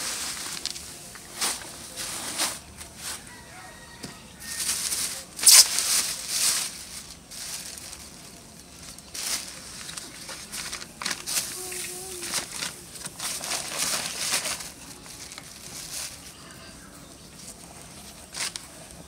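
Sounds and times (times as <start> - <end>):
plastic bags rustling: 0.0 - 16.5, 17.4 - 19.0.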